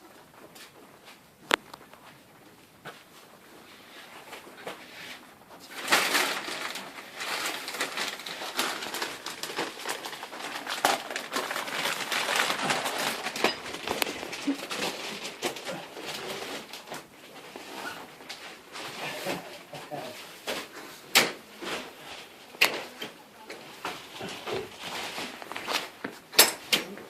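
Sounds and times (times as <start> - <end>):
rustling and scraping: 0.3 - 27.0.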